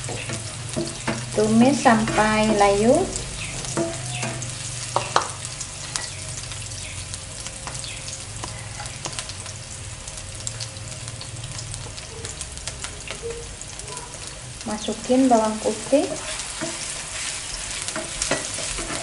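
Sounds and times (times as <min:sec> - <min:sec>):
onion sizzling in oil: 0:00.0 - 0:19.0.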